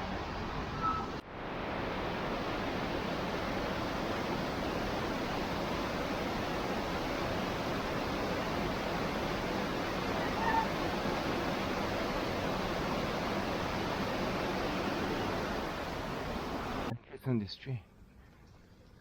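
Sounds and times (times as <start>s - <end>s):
rain falling: 0.0s - 16.9s.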